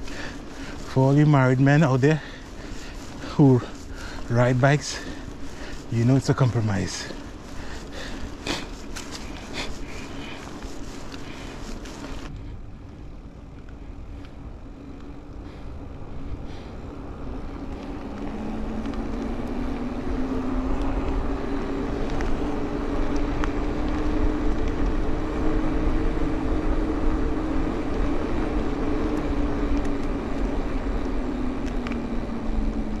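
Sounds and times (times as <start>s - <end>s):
knobby bike tyres humming: 0.0s - 33.0s
wind rumble on microphone: 0.0s - 33.0s.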